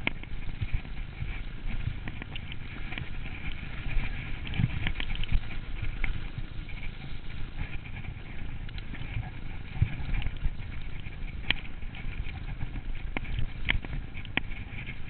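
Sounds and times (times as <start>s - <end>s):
bike rattling: 0.0s - 15.0s
bike tyres rumbling on trail: 0.0s - 15.0s.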